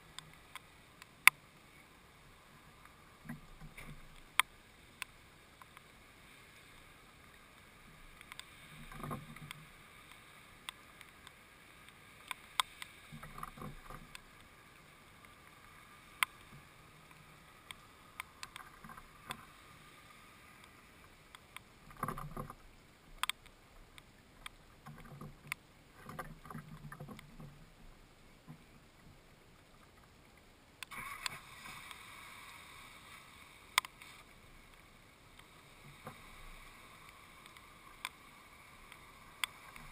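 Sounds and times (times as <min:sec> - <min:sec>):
steady outdoor hiss: 0:00.0 - 0:39.9.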